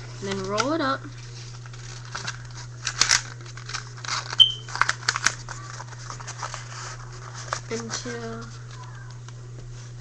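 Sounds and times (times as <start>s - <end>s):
low electrical hum: 0.0s - 10.0s
paper rustling and crinkling: 0.1s - 10.0s.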